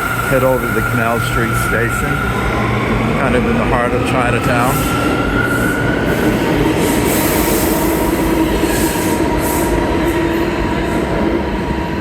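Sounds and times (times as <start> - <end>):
subway train wheels rumbling: 0.0 - 12.0.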